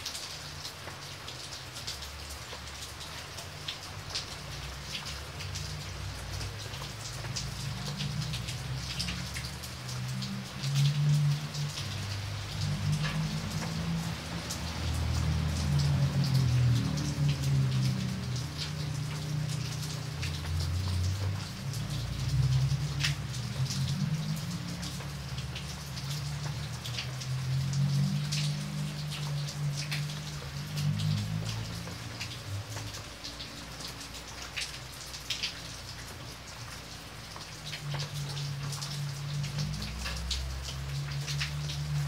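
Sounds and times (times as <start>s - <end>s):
rain on wet paving: 0.0s - 42.0s.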